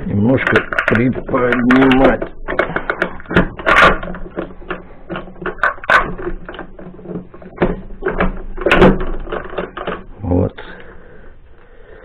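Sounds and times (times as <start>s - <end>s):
metallic clinks and knocks: 0.0s - 10.2s.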